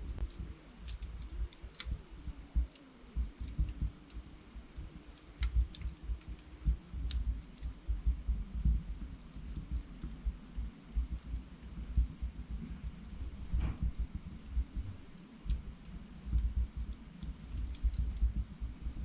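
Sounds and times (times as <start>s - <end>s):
flickering rumble of flames: 0.0s - 19.0s
log fire crackling and popping: 0.0s - 19.0s.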